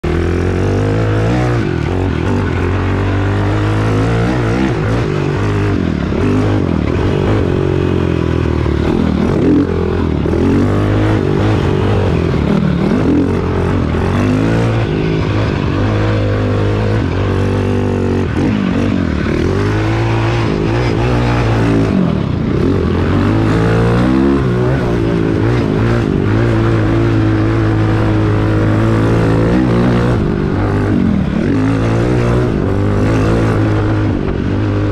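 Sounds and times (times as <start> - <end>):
quad engine revving: 0.0 - 34.9.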